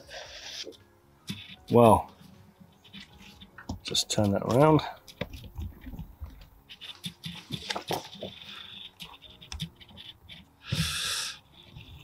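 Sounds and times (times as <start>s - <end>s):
fingers rustling on paper card: 0.1s - 12.0s.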